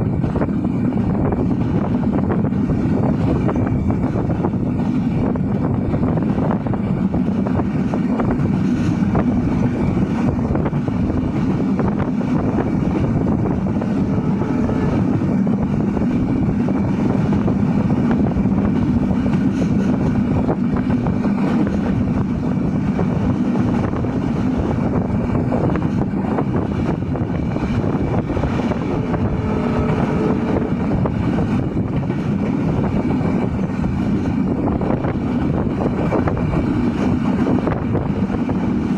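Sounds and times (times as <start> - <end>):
train wheels rumbling on track: 0.0 - 38.9
wind buffeting microphone: 0.0 - 38.9.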